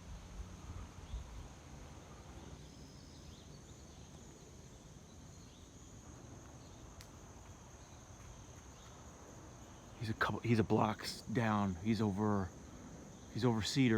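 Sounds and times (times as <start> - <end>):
insects droning: 0.0 - 13.9.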